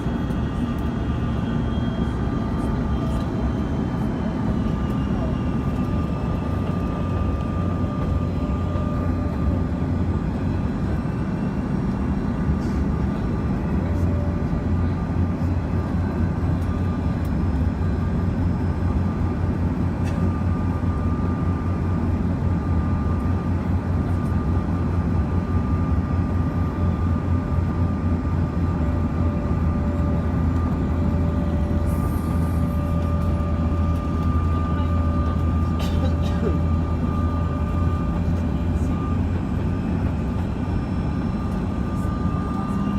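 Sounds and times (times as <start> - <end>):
deep rumble of engine and airflow: 0.0 - 42.9
jet engines high whine: 0.0 - 42.9.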